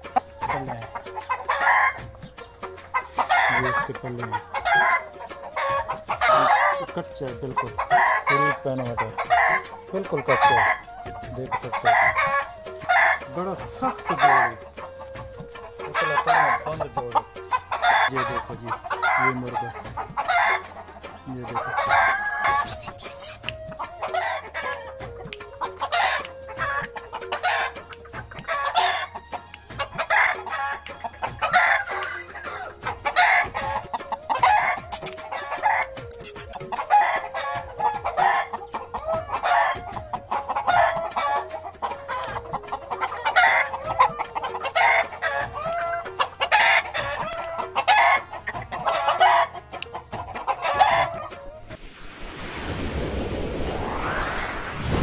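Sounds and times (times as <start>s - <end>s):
roosters crowing: 0.0s - 51.7s
chickens clucking: 0.0s - 51.8s.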